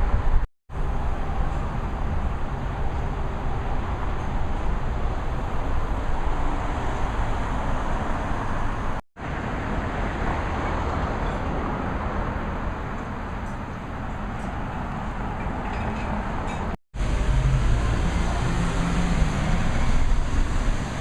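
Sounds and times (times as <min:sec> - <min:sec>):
moving vehicle rumbling: 0:00.0 - 0:21.0.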